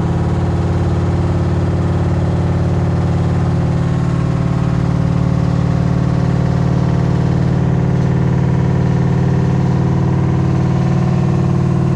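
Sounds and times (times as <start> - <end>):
washing machine spin hum: 0.0 - 11.9.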